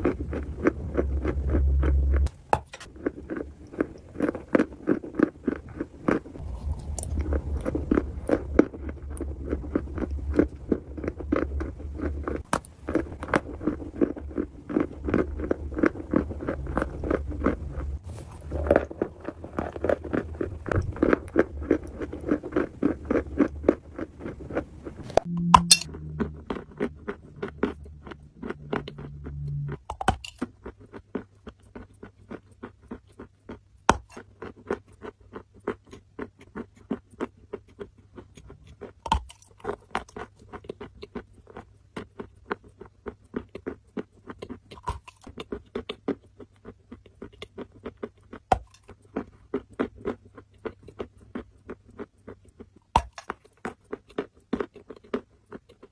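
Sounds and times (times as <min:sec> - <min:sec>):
dry clay crunching in chewing: 0:00.0 - 0:55.9.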